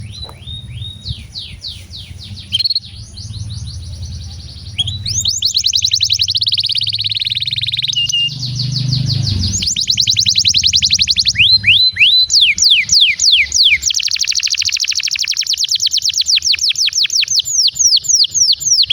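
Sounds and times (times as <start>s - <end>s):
canary singing trills: 0.0s - 18.9s.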